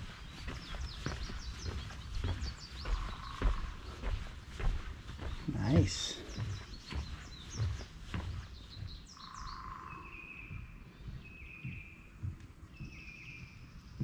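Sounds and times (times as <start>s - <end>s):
soft footsteps: 0.0s - 14.0s
songbirds singing: 0.0s - 14.0s.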